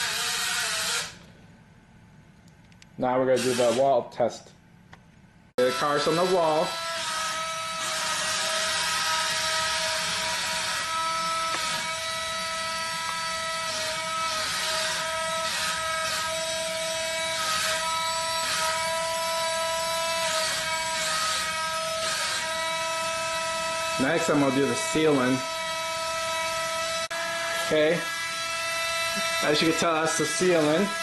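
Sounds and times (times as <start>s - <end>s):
suction fan motor whine: 0.0s - 2.1s, 3.0s - 4.0s, 5.6s - 31.0s.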